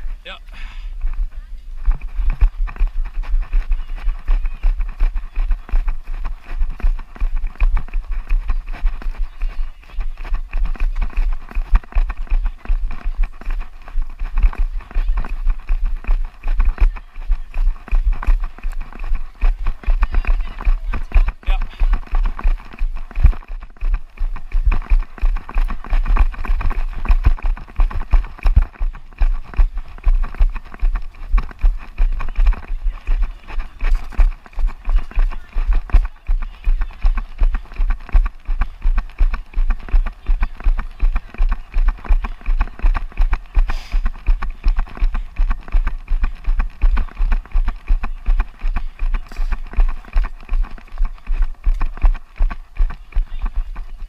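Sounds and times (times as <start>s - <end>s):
running footfalls thumping: 0.0s - 54.0s.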